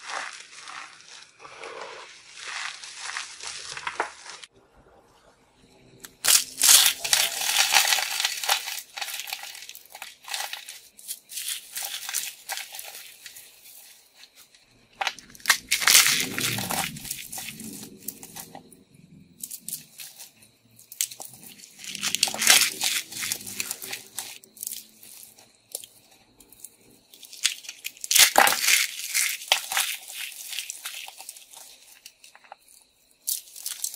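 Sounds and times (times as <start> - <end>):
soap crunching and crackling: 0.0 - 4.5, 6.0 - 18.7, 19.4 - 33.9
soap shavings rustling: 0.0 - 4.5, 6.2 - 18.7, 19.4 - 33.9.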